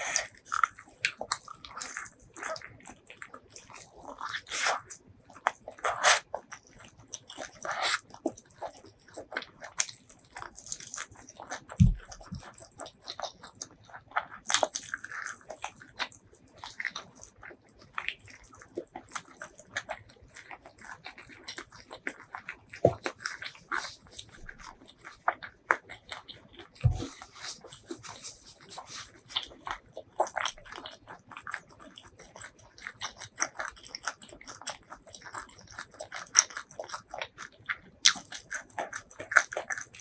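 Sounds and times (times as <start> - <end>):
person chewing crunchy food: 0.0 - 40.0.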